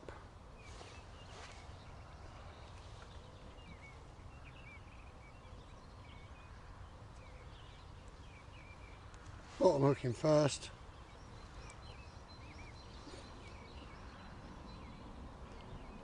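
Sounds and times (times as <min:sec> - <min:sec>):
small birds chirping: 0:00.3 - 0:16.0.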